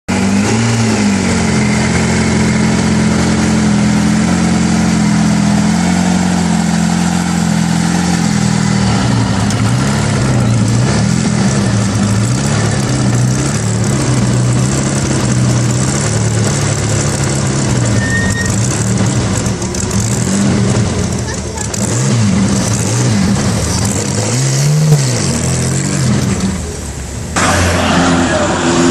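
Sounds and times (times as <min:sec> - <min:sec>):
car engine idling: 0:00.1 - 0:28.9.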